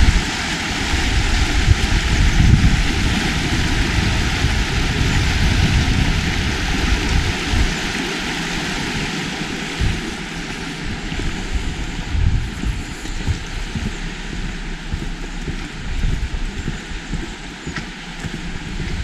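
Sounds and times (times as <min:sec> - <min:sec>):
steady rushing hiss: 0:00.0 - 0:19.0
wind buffeting microphone: 0:00.0 - 0:19.0.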